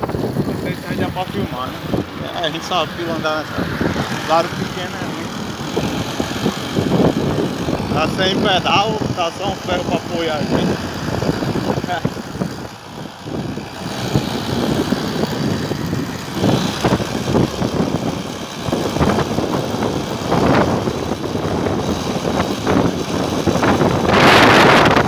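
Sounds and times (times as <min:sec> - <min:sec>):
steady rolling rumble: 0:00.0 - 0:25.0
wind buffeting microphone: 0:00.0 - 0:25.0.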